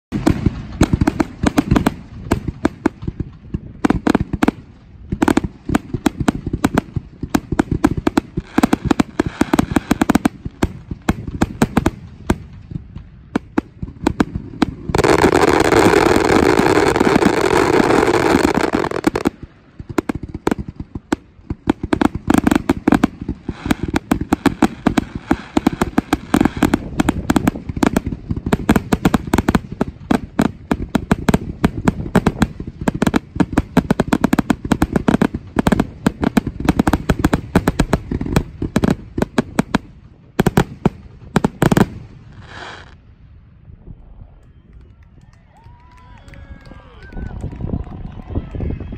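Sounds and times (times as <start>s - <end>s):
fireworks bursting: 0.1s - 43.4s.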